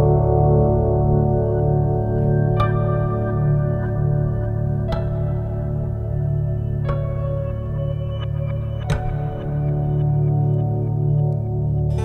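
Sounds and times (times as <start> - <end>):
ambient music held tones: 0.0 - 12.0.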